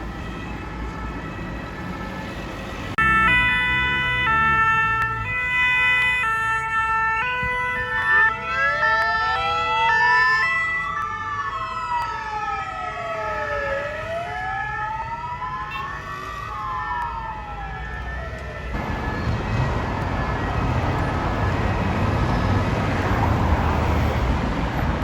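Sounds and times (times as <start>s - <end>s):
traffic noise: 0.0s - 25.0s
two-tone siren: 0.0s - 25.0s
wailing siren: 0.0s - 25.0s.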